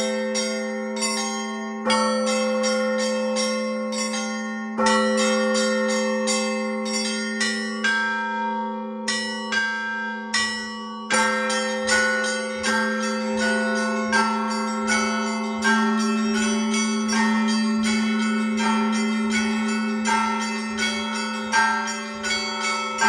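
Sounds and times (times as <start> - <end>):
small high bells striking: 0.0 - 8.4, 9.0 - 23.0
deep church bell: 0.0 - 23.0.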